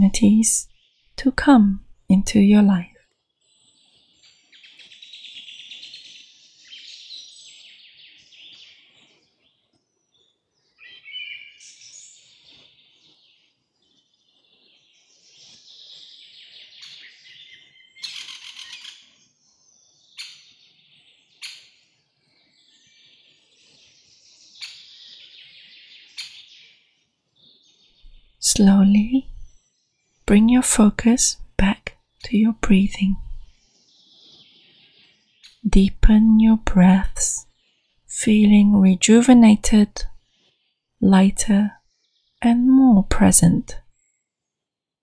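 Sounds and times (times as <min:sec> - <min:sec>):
songbirds chirping and trilling: 0:02.3 - 0:30.9, 0:32.0 - 0:38.8, 0:41.5 - 0:42.5.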